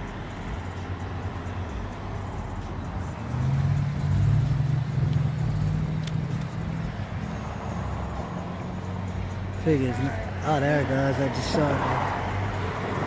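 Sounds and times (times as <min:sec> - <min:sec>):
motor vehicle humming: 0:00.0 - 0:13.0.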